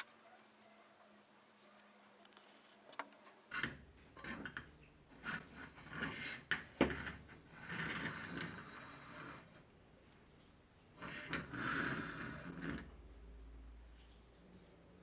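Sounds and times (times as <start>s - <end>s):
hard objects scraping and rubbing: 0.0s - 10.0s, 10.9s - 13.5s.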